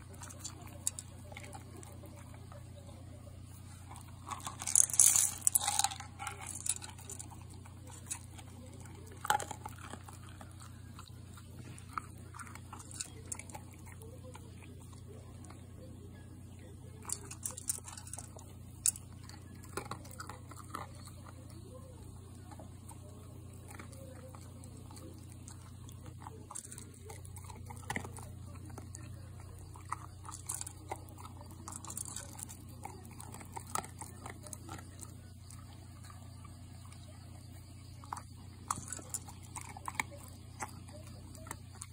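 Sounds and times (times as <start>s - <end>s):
dog crunching kibble: 0.0s - 41.9s.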